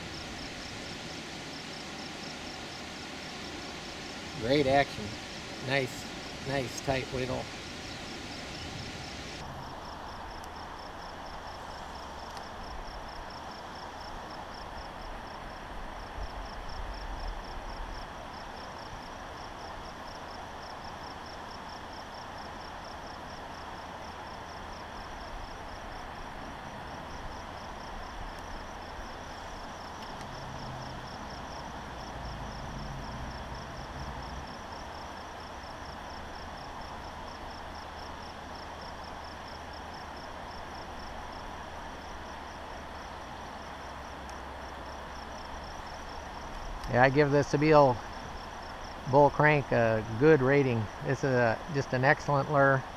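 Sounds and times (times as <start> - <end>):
insect chirping: 0.0 - 52.9
soft background hiss: 0.0 - 52.9.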